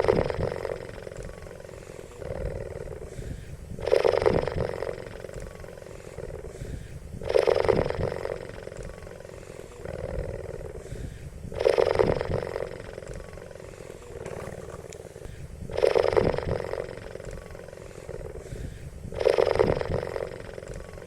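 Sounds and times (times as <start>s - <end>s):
quieter animal calls: 0.0s - 21.0s.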